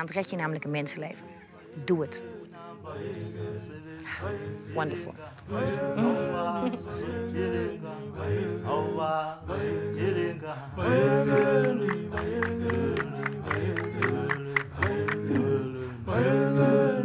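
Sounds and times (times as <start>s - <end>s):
song with singing voice: 0.7s - 17.0s.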